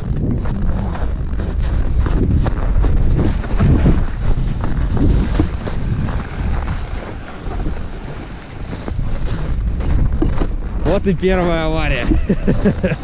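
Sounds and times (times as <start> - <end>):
steps crunching on snow: 0.0 - 13.0
wind rumbling on microphone: 0.0 - 13.0.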